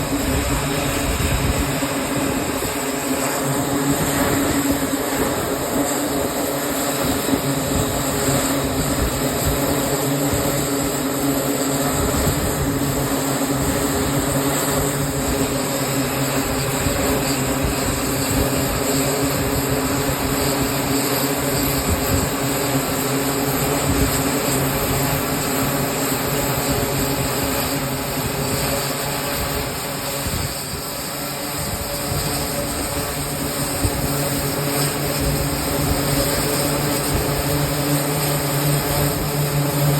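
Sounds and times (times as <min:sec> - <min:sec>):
aircraft engines droning: 0:00.0 - 0:39.9.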